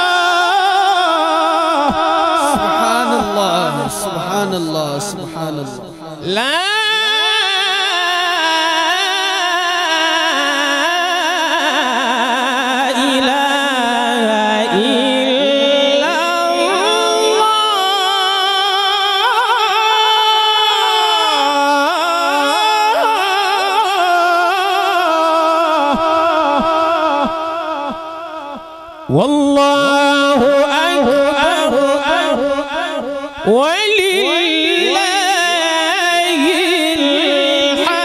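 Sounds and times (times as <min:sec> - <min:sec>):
man reciting melodically: 0:00.0 - 0:38.0.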